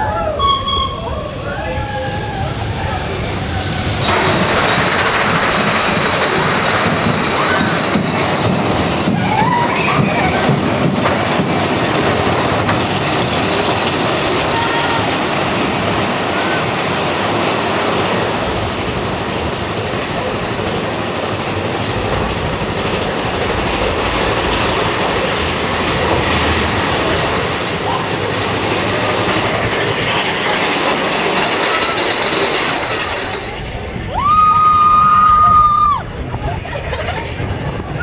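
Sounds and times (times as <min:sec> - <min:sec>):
coaster wheels rattling on rail: 0:00.0 - 0:38.0.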